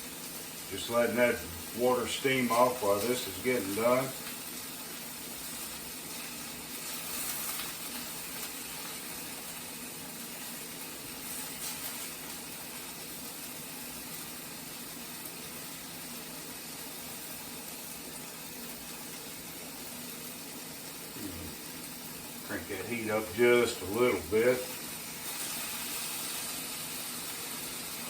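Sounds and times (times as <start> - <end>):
chicken sizzling in a skillet: 0.0 - 28.0
pot steaming: 0.0 - 28.0.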